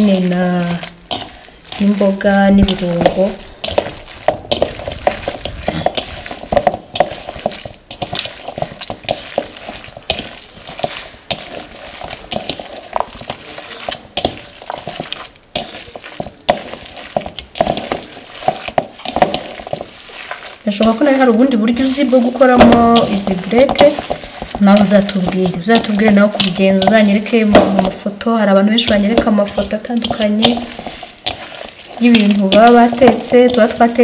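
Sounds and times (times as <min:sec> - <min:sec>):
wet squelching of meat kneaded by hand: 0:00.0 - 0:34.0.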